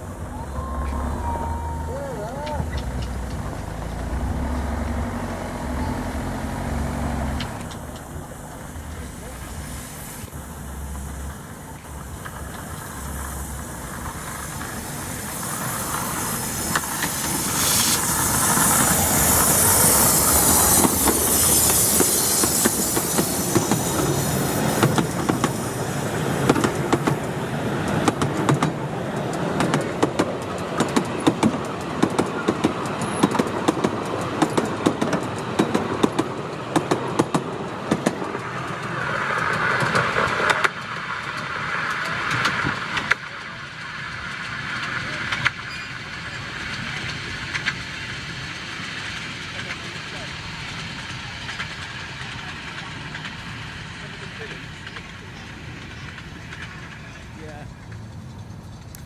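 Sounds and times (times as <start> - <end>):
hiss burst: 0.0 - 59.0
miniature train running past: 0.0 - 59.0
wheels clicking over rail joints: 0.0 - 59.0.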